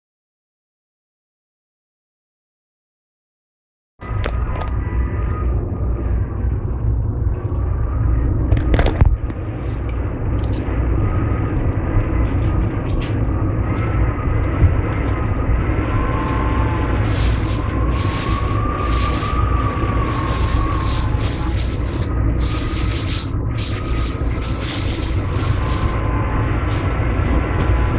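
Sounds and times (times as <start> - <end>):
strong gusting wind: 4.0 - 27.9
wavering wind whistle: 4.0 - 27.9.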